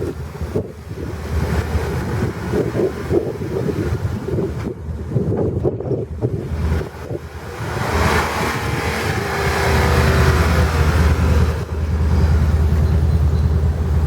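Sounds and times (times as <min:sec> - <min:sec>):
broad rushing noise: 0:00.0 - 0:14.0
truck engine running: 0:00.0 - 0:14.0.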